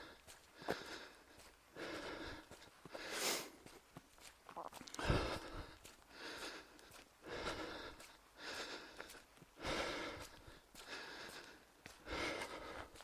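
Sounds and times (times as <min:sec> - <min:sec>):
man breathing heavily: 0:00.0 - 0:03.9, 0:04.8 - 0:13.0.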